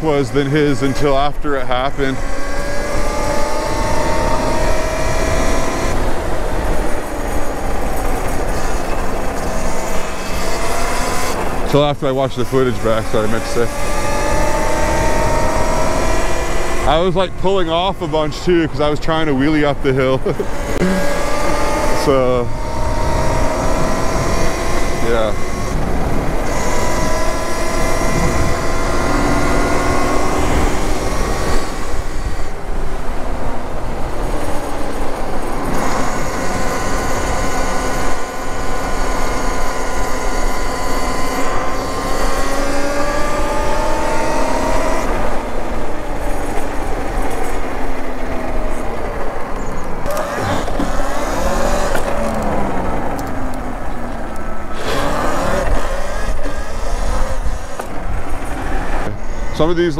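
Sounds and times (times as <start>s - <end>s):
electric motor whine: 0.0s - 18.9s, 19.8s - 59.8s
wind rumble on microphone: 0.0s - 59.9s.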